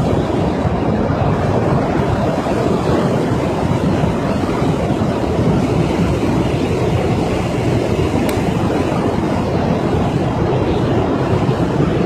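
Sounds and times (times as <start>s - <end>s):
flooded river rushing: 0.0s - 12.0s.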